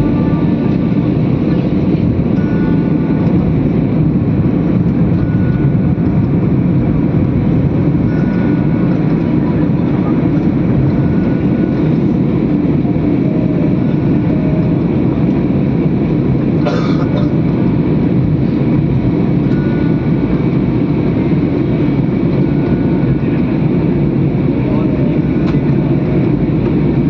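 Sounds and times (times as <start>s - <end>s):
airplane engines at takeoff power: 0.0s - 27.0s.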